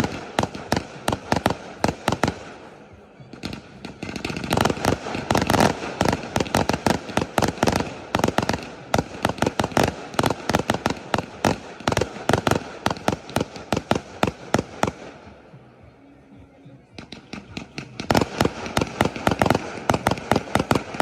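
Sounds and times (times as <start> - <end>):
fireworks banging: 0.0 - 15.8, 16.4 - 21.0.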